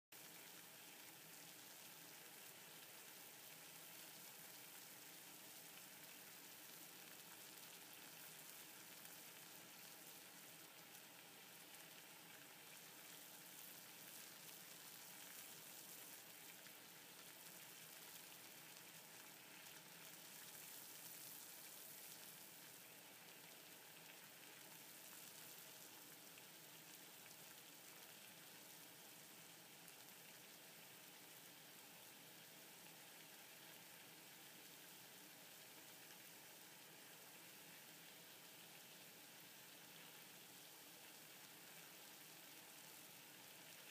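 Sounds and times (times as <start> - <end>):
water boiling with faint hiss: 0.1 - 43.9.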